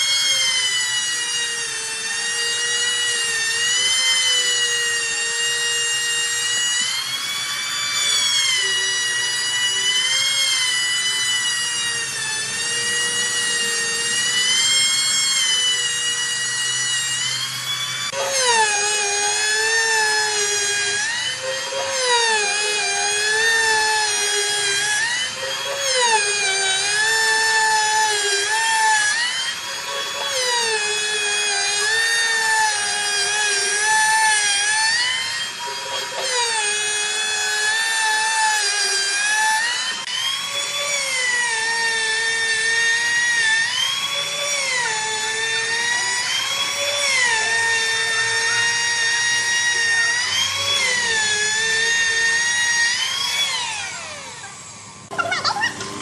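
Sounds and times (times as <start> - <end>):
electric power tool whining: 0.0 - 56.0.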